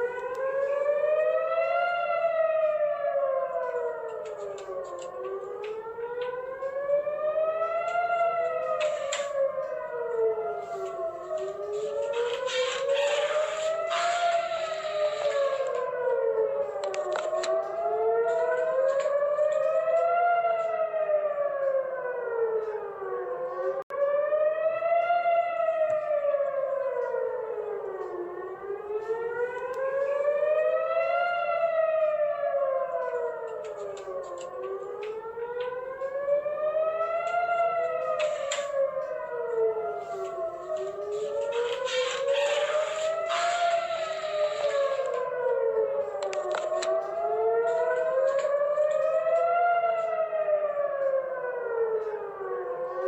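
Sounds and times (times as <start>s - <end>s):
air raid sirens wailing: 0.0s - 53.0s.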